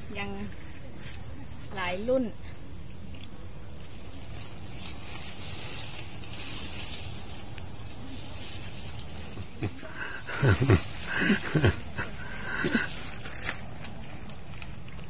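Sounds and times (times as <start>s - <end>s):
outdoor hiss: 0.0s - 14.8s
leaves and branches rustling: 0.0s - 15.0s.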